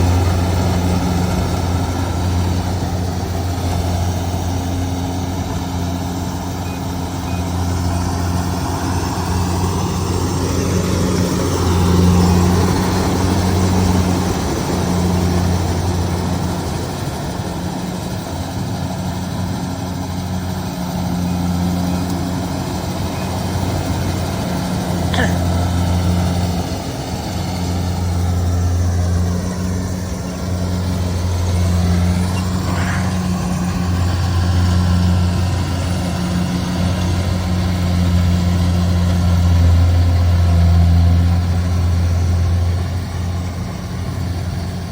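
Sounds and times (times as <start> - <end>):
combine harvester diesel engine: 0.0 - 44.9.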